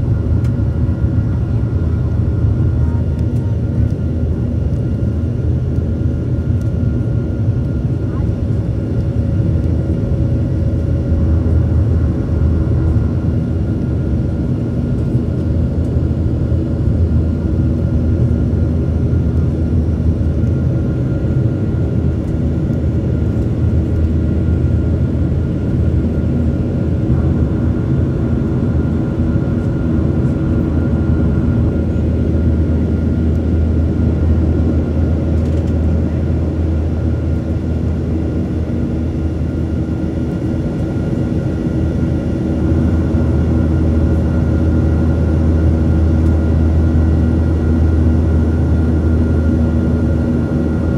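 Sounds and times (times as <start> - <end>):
airplane cabin engine drone: 0.0 - 50.9
faint engine whine: 0.0 - 50.9.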